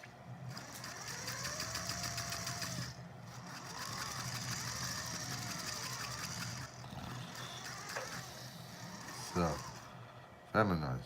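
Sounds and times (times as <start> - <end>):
small electric motors whirring: 0.4 - 10.3.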